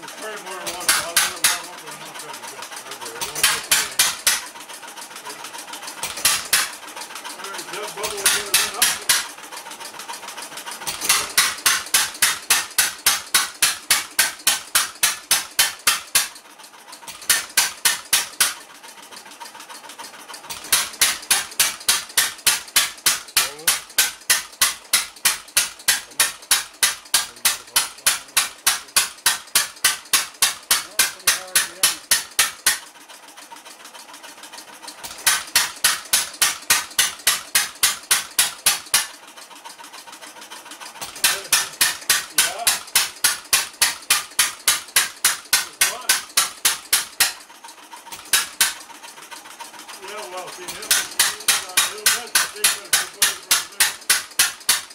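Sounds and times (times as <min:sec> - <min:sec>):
engine firing sharp bangs: 0:00.2 - 0:09.6, 0:10.3 - 0:18.7, 0:20.4 - 0:32.9, 0:35.0 - 0:39.2, 0:41.0 - 0:49.0, 0:50.0 - 0:54.9.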